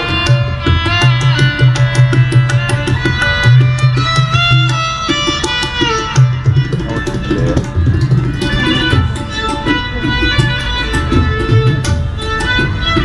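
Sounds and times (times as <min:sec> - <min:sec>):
tabla drumming: 0:00.0 - 0:13.0.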